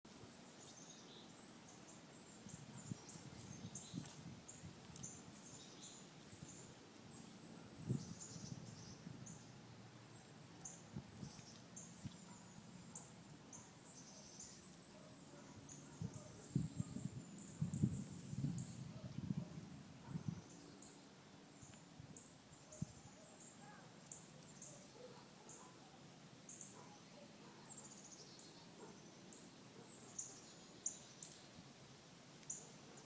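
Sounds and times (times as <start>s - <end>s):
faint outdoor background noise: 0.1s - 33.0s.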